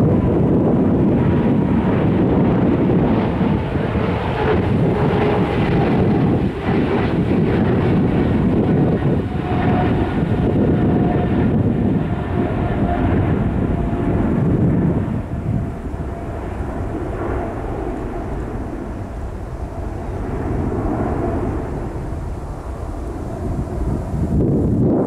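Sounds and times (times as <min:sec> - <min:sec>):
faint jet engine whine: 0:00.0 - 0:25.0
jet engine roar: 0:00.0 - 0:25.0.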